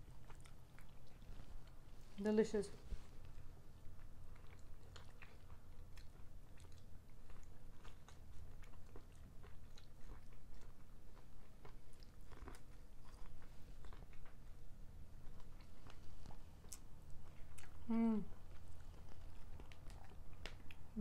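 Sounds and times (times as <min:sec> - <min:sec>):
chewing corn on the cob: 0:00.0 - 0:02.0, 0:03.1 - 0:21.0.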